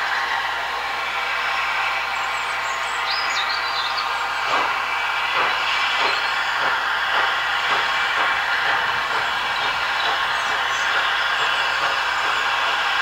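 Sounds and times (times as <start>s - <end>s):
locomotive exhaust chuffs: 0.0s - 13.0s
steam hissing: 0.0s - 13.0s.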